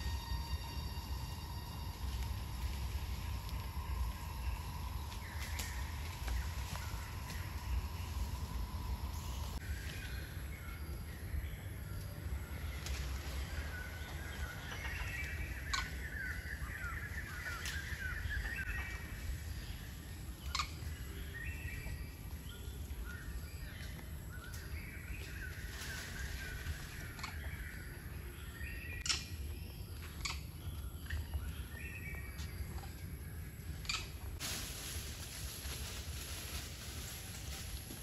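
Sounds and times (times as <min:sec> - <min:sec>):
birds chirping: 0:00.0 - 0:34.4
steady low rumble: 0:00.0 - 0:38.0.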